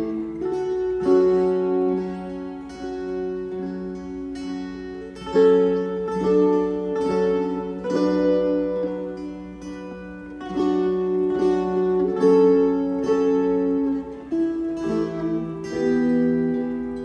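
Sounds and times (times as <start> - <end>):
plucked string instrument music: 0.0 - 17.0.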